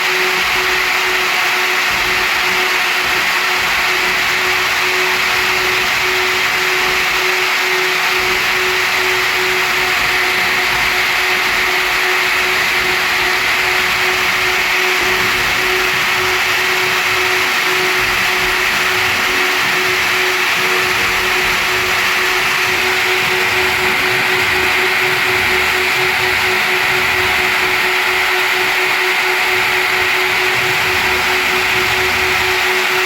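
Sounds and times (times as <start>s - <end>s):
cutting into wood: 0.0s - 33.0s
router spindle whine: 0.0s - 33.0s.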